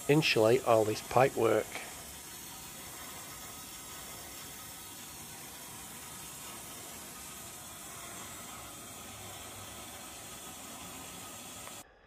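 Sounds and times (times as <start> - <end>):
gas boiler hissing: 0.0 - 11.9.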